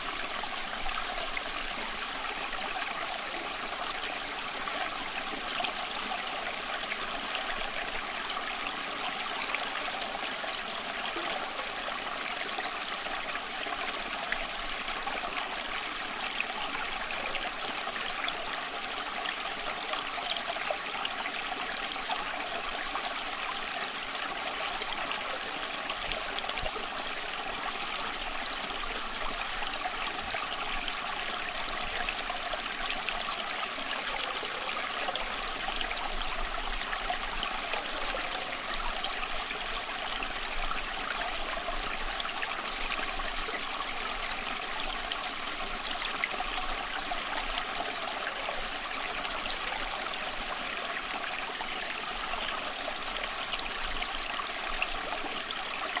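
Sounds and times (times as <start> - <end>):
stream trickling over rocks: 0.0 - 56.0.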